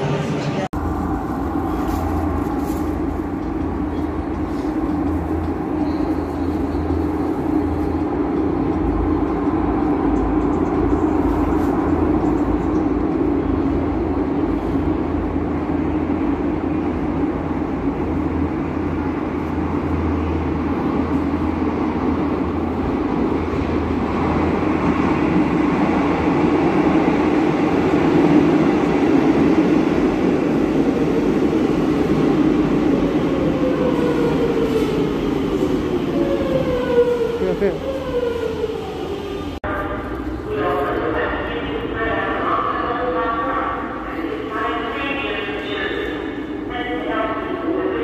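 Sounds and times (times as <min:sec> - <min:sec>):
train rumbling in tunnel: 0:00.0 - 0:48.0.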